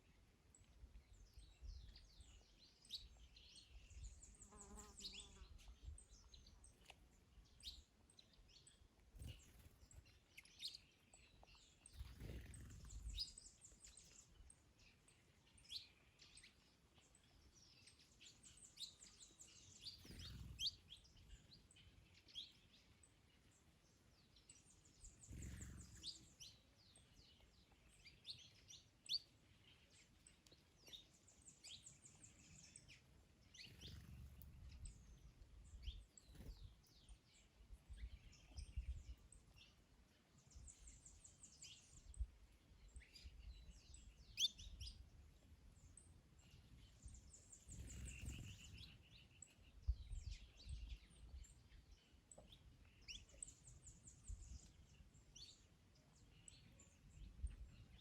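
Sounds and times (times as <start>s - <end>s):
birds chirping: 0.5s - 23.6s, 24.4s - 39.8s, 40.4s - 58.0s.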